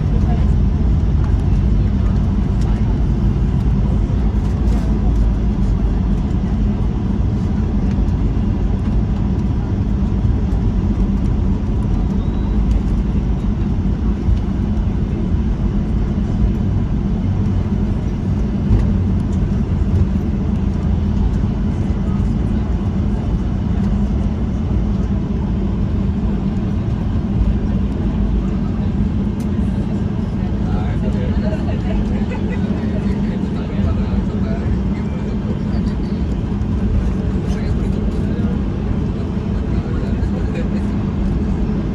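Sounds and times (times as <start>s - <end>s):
faint constant hum: 0.0s - 41.9s
jet engines rumbling: 0.0s - 41.9s.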